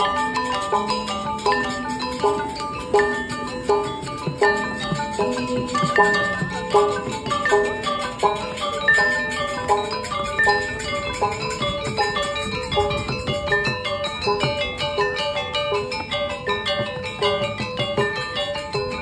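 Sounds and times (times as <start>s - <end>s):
gamelan metallophones ringing: 0.0s - 19.0s.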